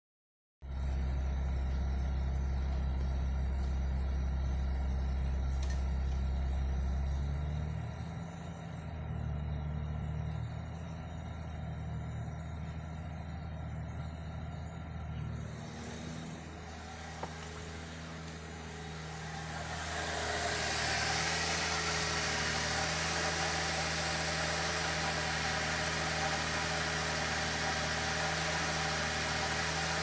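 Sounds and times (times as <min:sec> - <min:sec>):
car engine idling: 0:00.6 - 0:30.0.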